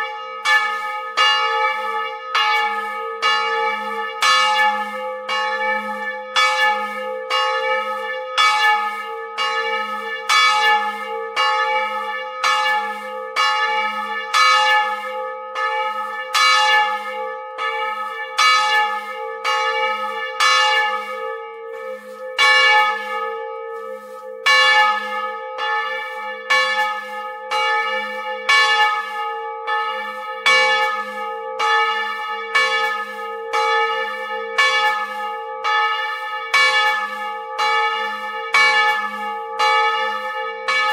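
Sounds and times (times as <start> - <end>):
church bell ringing: 0.0 - 40.9.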